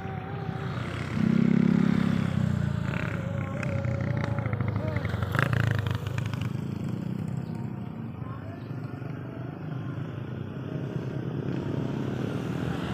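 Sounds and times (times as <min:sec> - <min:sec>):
vehicle engine rumbling: 0:00.0 - 0:12.9.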